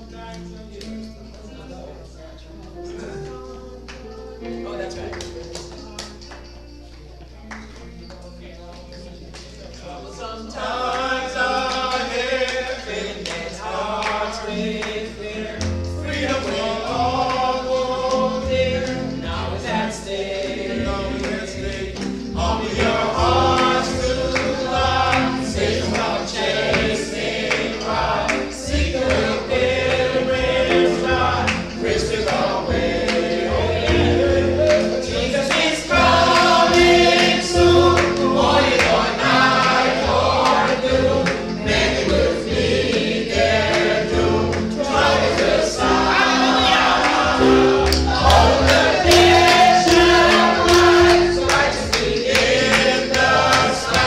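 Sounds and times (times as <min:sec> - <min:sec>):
vocal group singing in harmony: 0:09.8 - 0:54.0.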